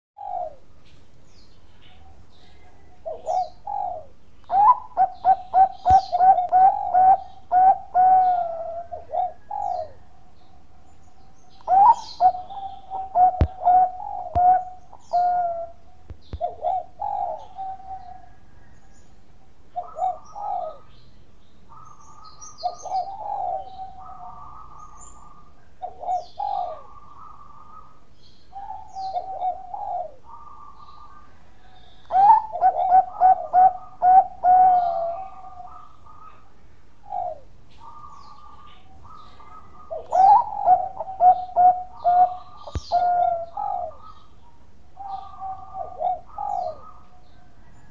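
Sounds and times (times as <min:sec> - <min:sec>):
dove cooing: 0:00.2 - 0:00.8, 0:01.8 - 0:21.1, 0:21.7 - 0:47.9.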